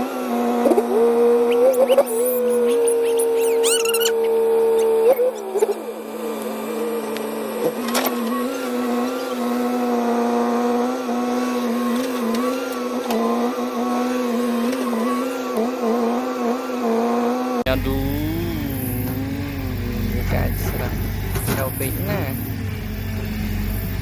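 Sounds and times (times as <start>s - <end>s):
toy electric motors whining: 0.0s - 16.9s, 17.6s - 24.0s.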